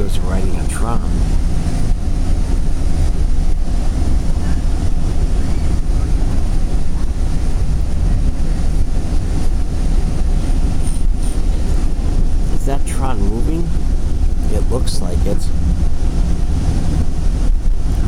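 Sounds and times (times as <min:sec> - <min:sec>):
moving train rumble: 0:00.0 - 0:18.0.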